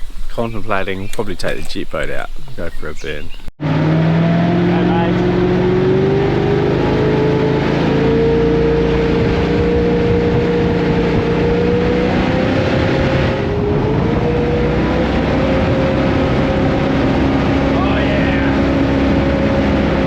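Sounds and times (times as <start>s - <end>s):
engine running hard: 3.6s - 20.0s.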